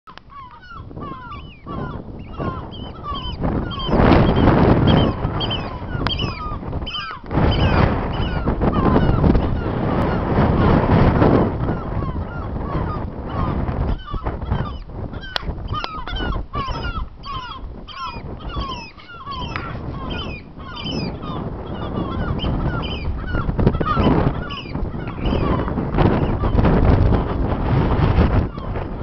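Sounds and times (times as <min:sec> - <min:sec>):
birds calling: 0:00.1 - 0:29.0
wind buffeting the microphone: 0:00.1 - 0:29.0.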